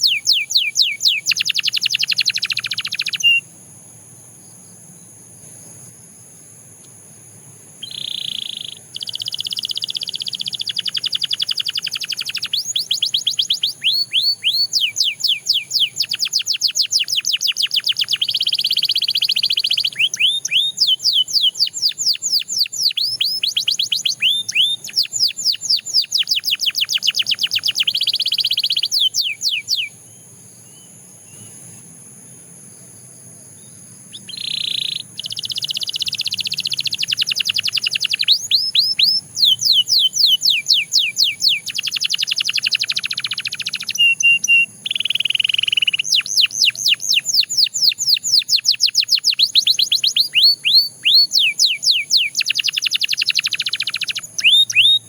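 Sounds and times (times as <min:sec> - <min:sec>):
canary singing in fast trills: 0:00.0 - 0:03.4, 0:07.8 - 0:30.0, 0:34.1 - 0:55.0.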